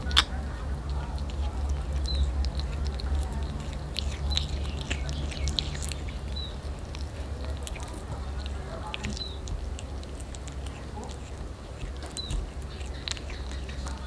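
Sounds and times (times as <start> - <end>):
kitten chewing meat: 0.0 - 14.0
steady low hum: 0.0 - 14.0.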